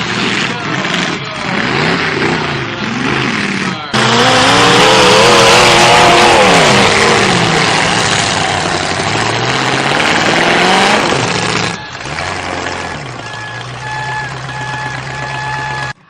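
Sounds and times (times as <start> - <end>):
car engines revving loudly: 0.0 - 16.0.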